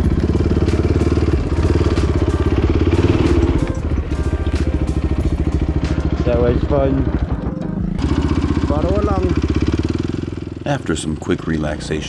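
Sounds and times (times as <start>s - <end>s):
dirt bike engine pulsing: 0.0s - 12.0s.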